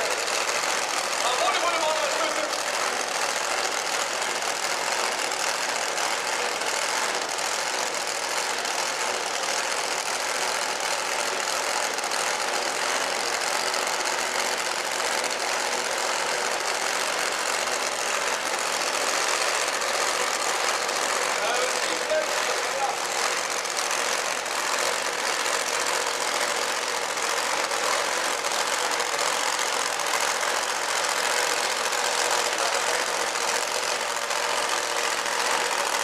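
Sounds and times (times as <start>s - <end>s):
tractor engine running flat out: 0.0s - 36.0s.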